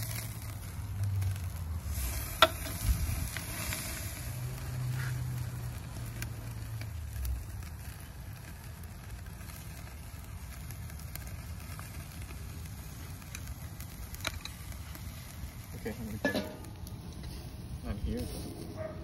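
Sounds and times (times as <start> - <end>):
food sizzling on a grill: 0.0 - 19.0
hot coals crackling: 0.0 - 19.0.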